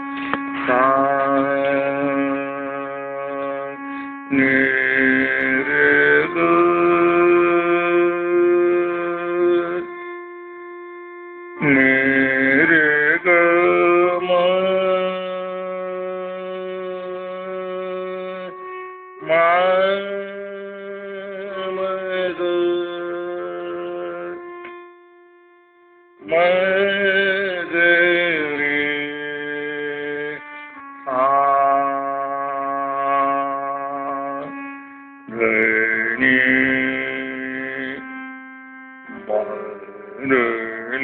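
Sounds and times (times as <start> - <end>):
reedy melody over drone: 0.0 - 41.0.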